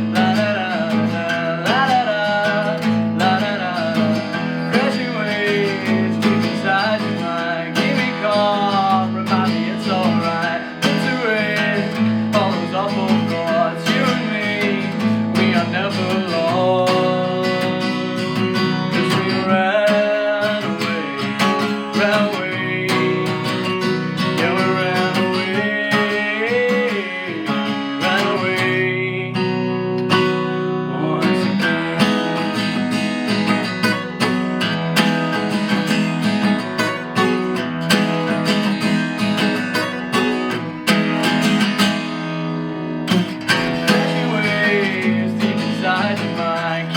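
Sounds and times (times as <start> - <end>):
man singing: 0.0 - 42.2, 43.0 - 46.9
acoustic guitar strumming: 0.0 - 46.9.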